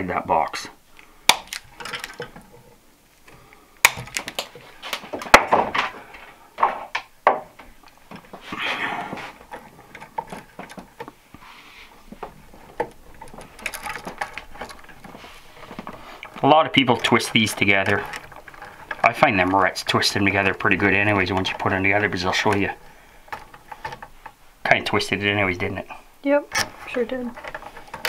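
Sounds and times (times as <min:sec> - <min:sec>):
wires rustling and scraping: 0:00.0 - 0:28.0.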